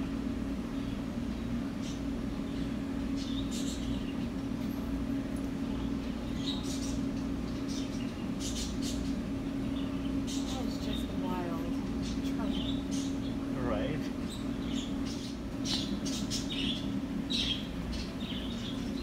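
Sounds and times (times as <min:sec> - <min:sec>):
low hum of store equipment: 0:00.0 - 0:19.0.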